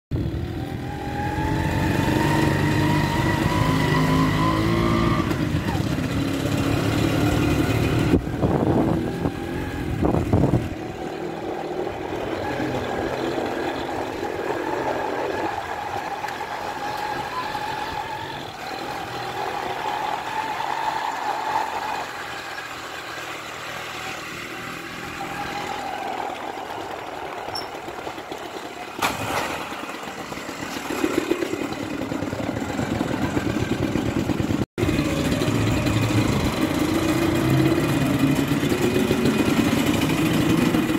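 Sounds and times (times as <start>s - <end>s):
motorcycle engine running: 0.1s - 40.9s.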